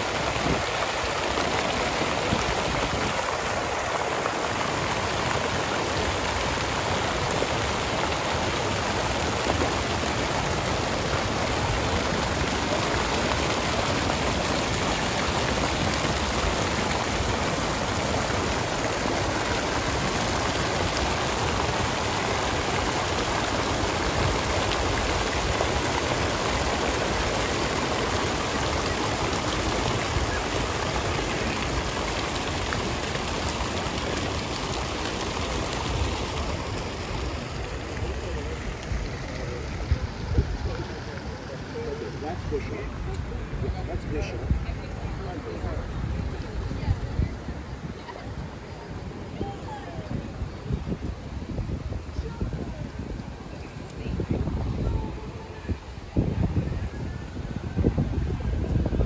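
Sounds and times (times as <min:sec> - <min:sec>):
fountain jets splashing into pool: 0:00.0 - 0:59.0.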